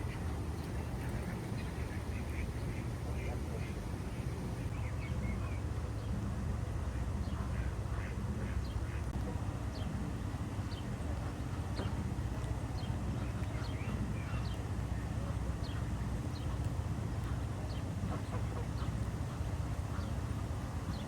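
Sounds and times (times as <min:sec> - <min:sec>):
low outdoor background rumble: 0:00.0 - 0:21.0.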